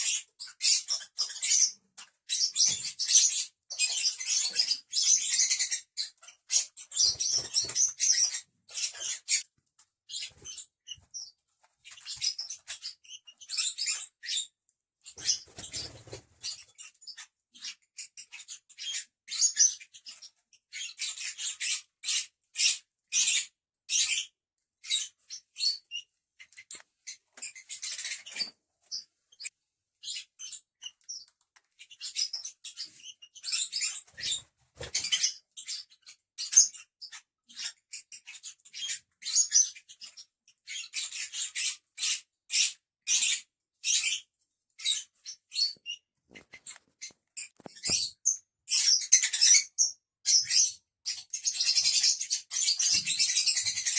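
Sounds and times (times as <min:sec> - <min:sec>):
birds chirping: 0:00.0 - 0:09.5, 0:10.1 - 0:53.9.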